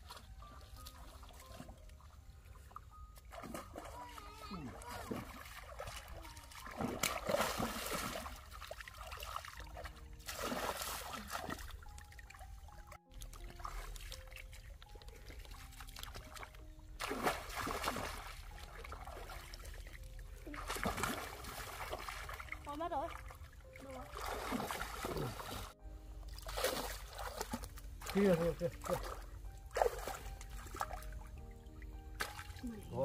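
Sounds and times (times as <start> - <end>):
muddy water splashing: 0.0 - 33.0
water trickling and sloshing: 0.0 - 33.0.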